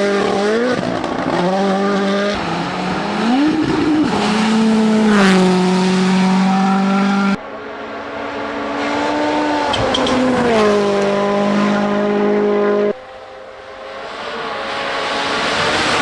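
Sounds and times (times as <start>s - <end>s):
rally car engines at high revs: 0.0s - 16.0s.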